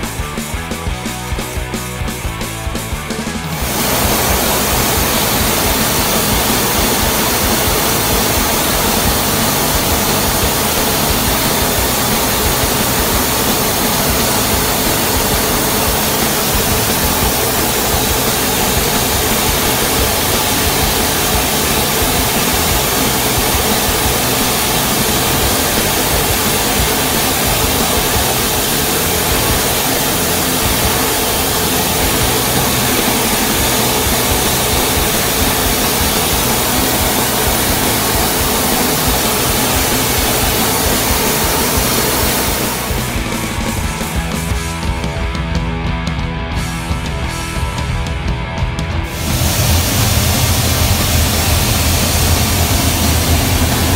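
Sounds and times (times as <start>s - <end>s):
jet cockpit rushing noise: 0.0s - 45.0s, 49.0s - 53.9s.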